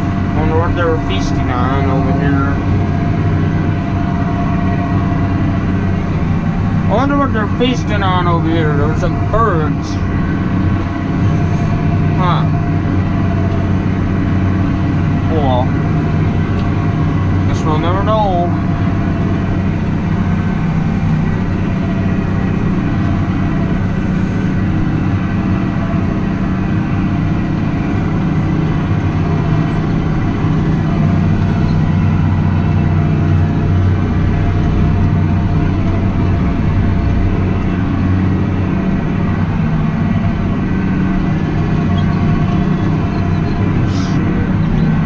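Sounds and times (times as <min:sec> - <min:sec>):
faint steady whine: 0:00.0 - 0:45.0
tractor engine droning: 0:00.0 - 0:45.0.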